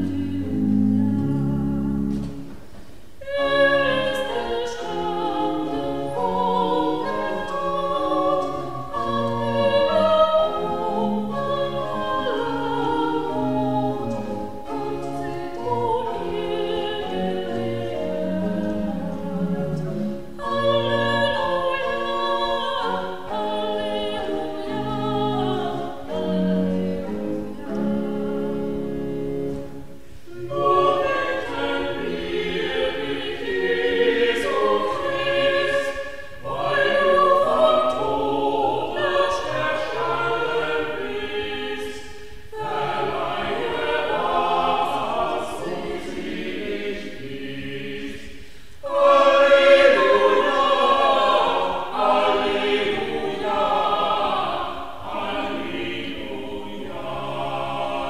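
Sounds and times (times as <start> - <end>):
choir singing: 0.0 - 2.6, 3.2 - 58.0.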